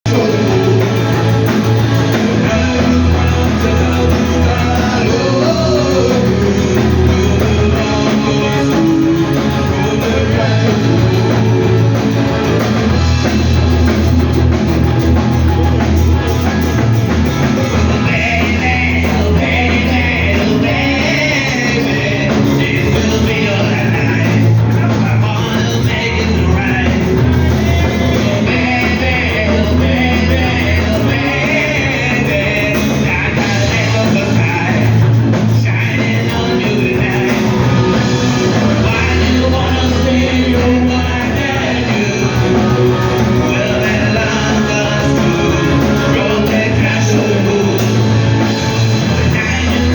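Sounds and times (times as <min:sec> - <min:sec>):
rock band playing: 0:00.0 - 0:49.9
person singing: 0:00.1 - 0:49.9.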